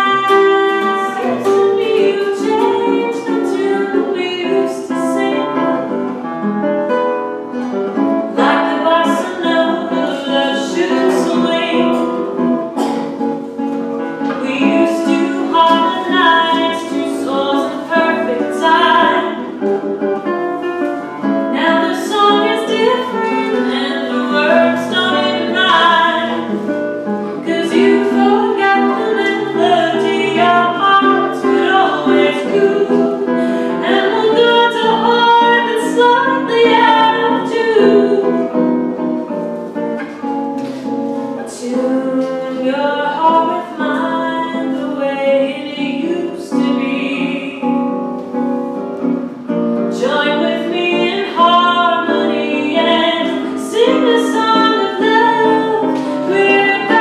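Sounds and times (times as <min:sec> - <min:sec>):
woman singing: 0:00.0 - 0:06.2, 0:08.0 - 0:13.4, 0:14.1 - 0:39.1, 0:41.3 - 0:48.4, 0:49.8 - 0:57.0
plucked classical guitar: 0:00.0 - 0:57.0.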